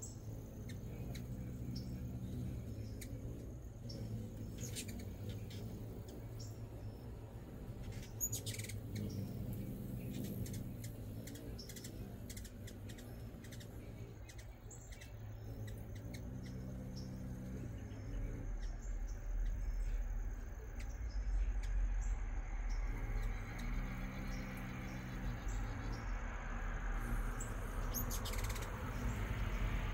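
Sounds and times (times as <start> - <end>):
hummingbirds chirping: 0.0 - 29.9
low rumble: 0.0 - 29.9
steady low hum: 0.0 - 29.9.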